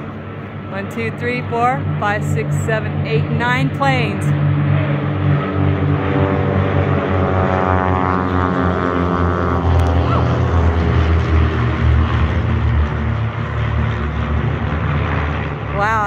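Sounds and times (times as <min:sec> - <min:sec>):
propeller planes droning overhead: 0:00.0 - 0:16.0.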